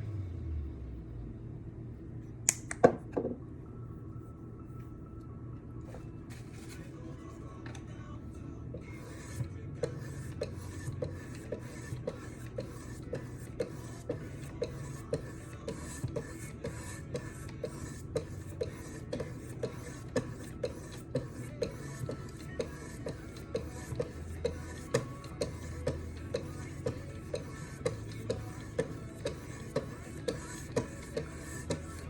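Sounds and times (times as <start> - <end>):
background music: 2.4 - 32.0.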